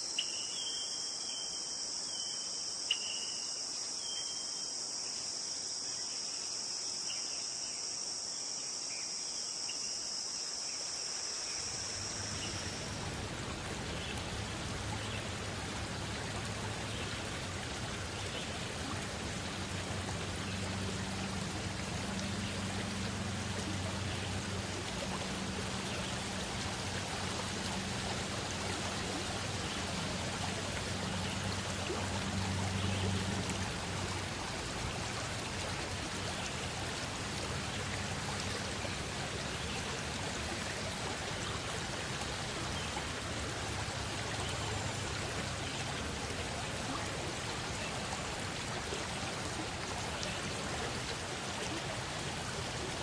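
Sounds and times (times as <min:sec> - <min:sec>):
insects trilling: 0:00.0 - 0:53.0
flowing water: 0:10.0 - 0:53.0.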